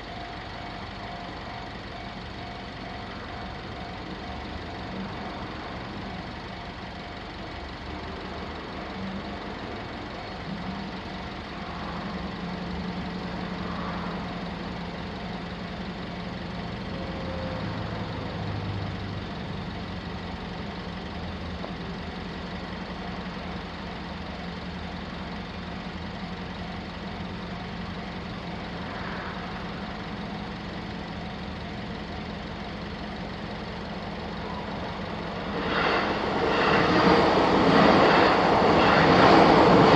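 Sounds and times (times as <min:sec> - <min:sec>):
large engine idling: 0:00.0 - 0:39.9
traffic noise: 0:00.0 - 0:39.9.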